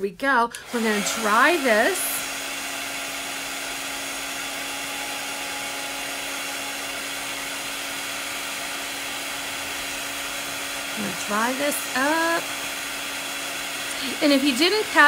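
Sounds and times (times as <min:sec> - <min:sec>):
heat tool blowing air: 0:00.5 - 0:15.0.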